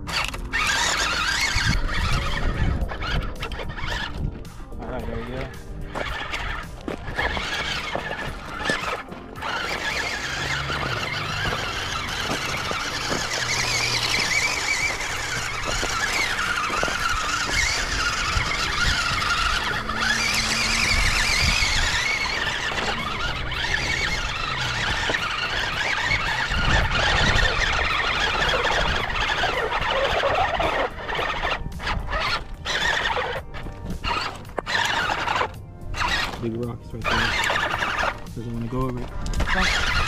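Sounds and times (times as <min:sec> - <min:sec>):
toy truck electric motor whine: 0:00.0 - 0:40.0.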